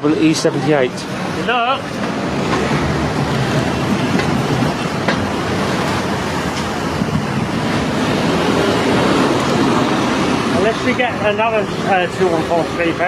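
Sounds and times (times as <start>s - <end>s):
large vehicle rumbling past: 0.9s - 13.0s.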